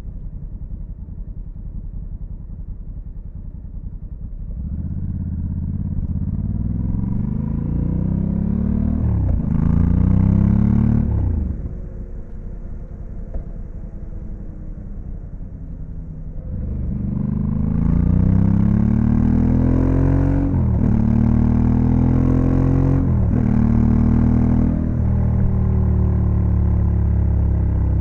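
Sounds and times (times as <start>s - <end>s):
motorcycle engine coasting and accelerating: 0.0s - 28.0s.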